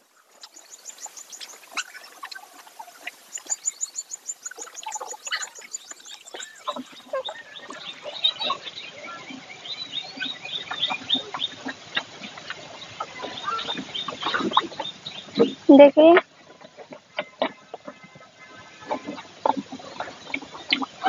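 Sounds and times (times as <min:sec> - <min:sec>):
cows eating at a trough: 0:00.8 - 0:21.0.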